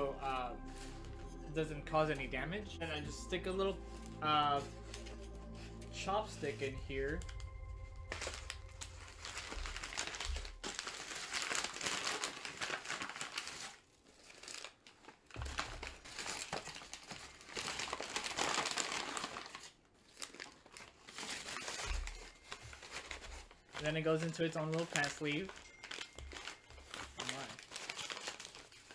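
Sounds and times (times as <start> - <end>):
paper crinkling and rustling: 0.0 - 28.9.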